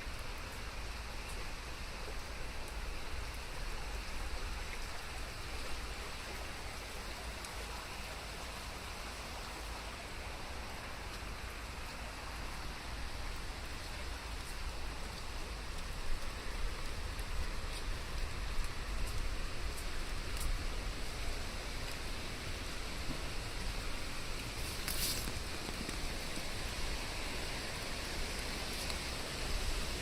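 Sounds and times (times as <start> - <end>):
rain drops ticking: 0.0 - 30.0
steady rainfall: 0.0 - 30.0.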